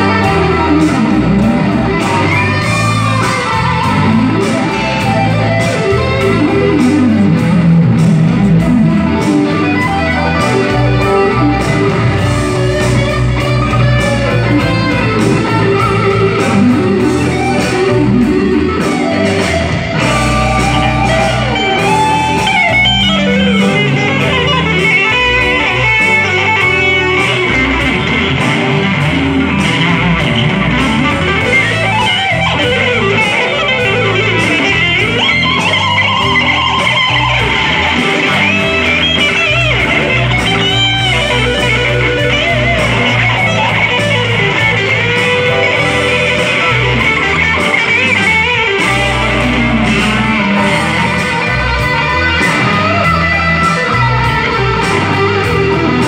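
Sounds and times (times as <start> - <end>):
electric bass playing: 0.0 - 56.0
electric guitar lead lines: 0.0 - 56.0.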